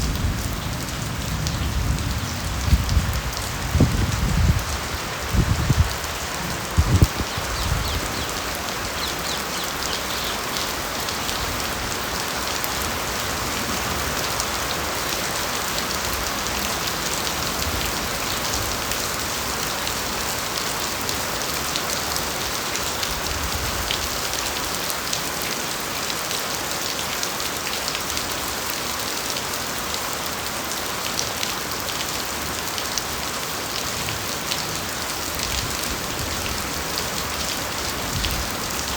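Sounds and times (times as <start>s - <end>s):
rain on bamboo foliage: 0.0s - 38.9s.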